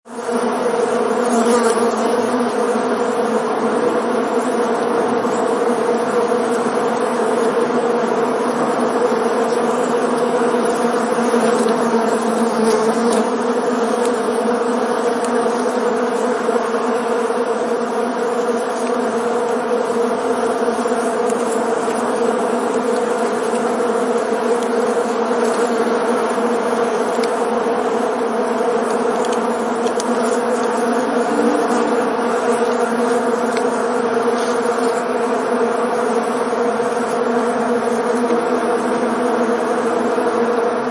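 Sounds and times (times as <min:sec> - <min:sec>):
bees buzzing in flight: 0:00.1 - 0:40.9.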